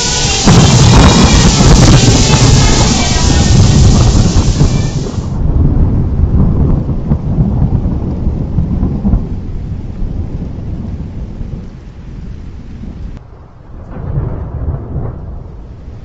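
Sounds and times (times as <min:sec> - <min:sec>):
rolling thunder: 0:00.0 - 0:16.0.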